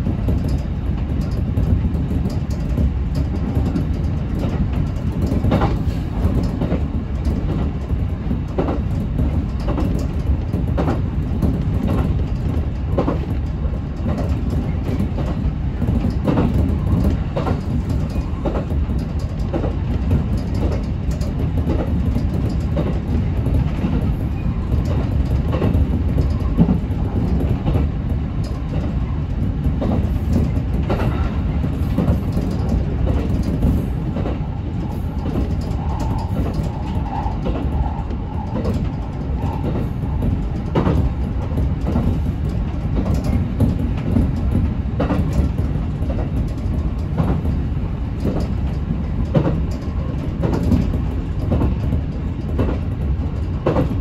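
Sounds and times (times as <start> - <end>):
rail joint clicks: 0.0 - 54.0
train wheels rumbling on rail: 0.0 - 54.0.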